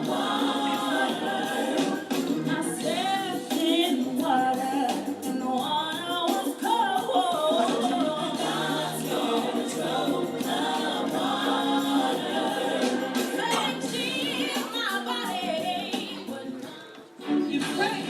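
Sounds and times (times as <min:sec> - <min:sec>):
choir singing gospel: 0:00.0 - 0:18.0.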